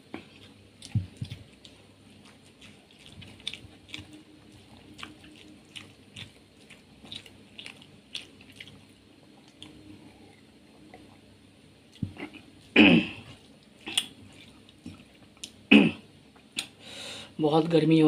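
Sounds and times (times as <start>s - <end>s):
mouth chewing soft food: 0.0s - 11.3s, 11.9s - 15.6s.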